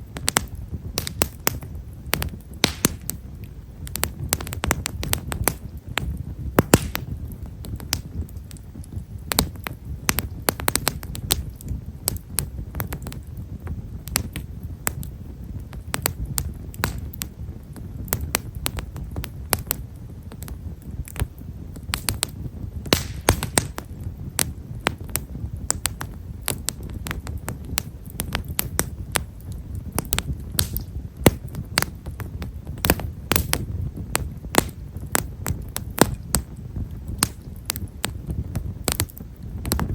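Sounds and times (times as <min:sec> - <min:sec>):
firewood crackling: 0:00.0 - 0:39.9
low steady rumble: 0:00.0 - 0:39.9.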